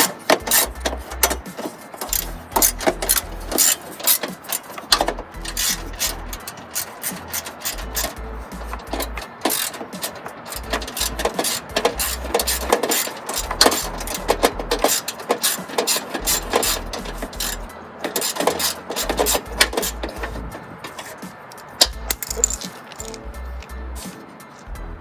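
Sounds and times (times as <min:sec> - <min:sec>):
socket ratchet clicking: 0:00.0 - 0:24.1
low musical beat: 0:00.0 - 0:25.0.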